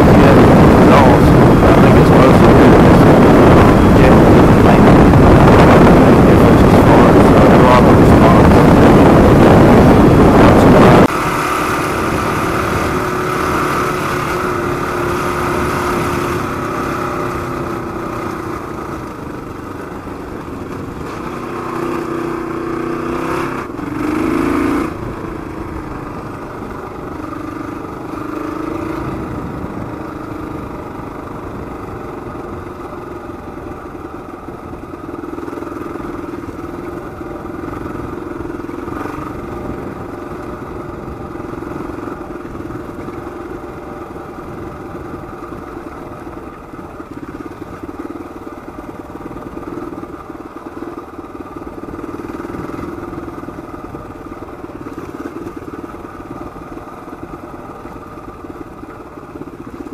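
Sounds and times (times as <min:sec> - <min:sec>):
wind rush on microphone: 0:00.0 - 0:35.1, 0:36.3 - 0:48.0, 0:51.0 - 0:59.9
motorcycle engine running: 0:00.0 - 0:59.9.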